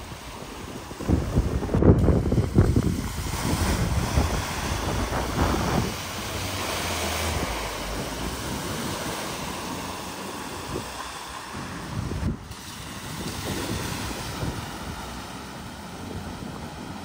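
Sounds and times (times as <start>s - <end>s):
floodwater surging and splashing: 0.0s - 17.0s
wind buffeting microphone: 0.0s - 17.0s.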